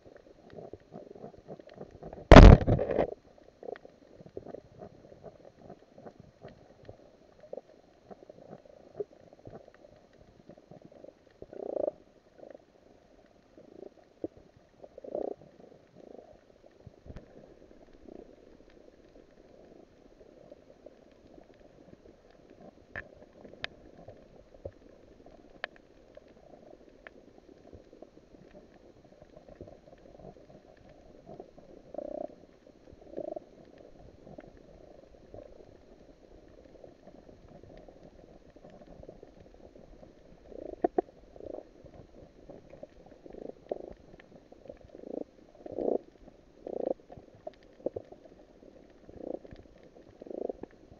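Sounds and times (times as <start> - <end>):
muffled underwater rumble: 0.0 - 50.9.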